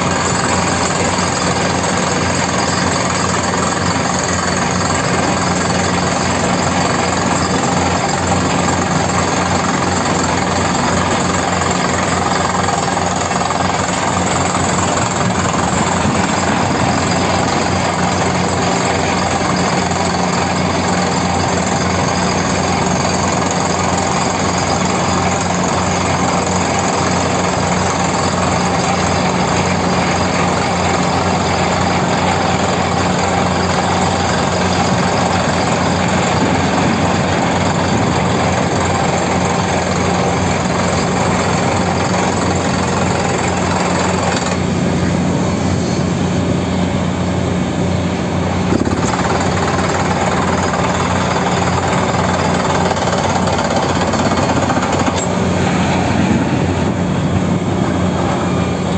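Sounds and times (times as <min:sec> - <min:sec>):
heavy diesel engine droning: 0:00.0 - 0:58.9.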